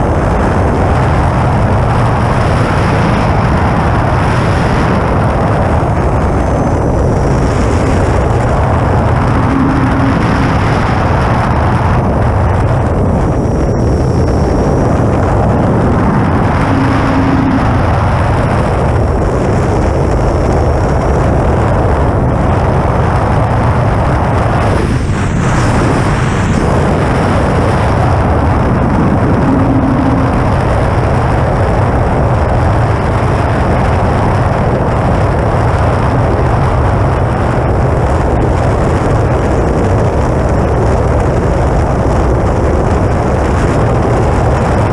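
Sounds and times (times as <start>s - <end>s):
wind buffeting camera: 0.0s - 44.9s.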